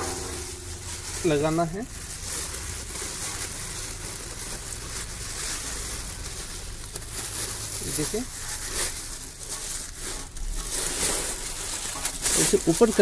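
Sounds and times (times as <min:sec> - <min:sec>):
low background hum: 0:00.0 - 0:12.2
plastic bag rustling: 0:00.0 - 0:13.0.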